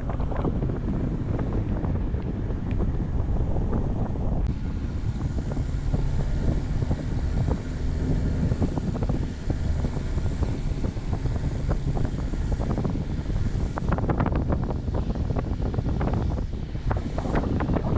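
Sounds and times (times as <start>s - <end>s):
vehicle engine and road rumble: 0.0s - 17.9s
wind buffeting microphone: 0.0s - 17.9s.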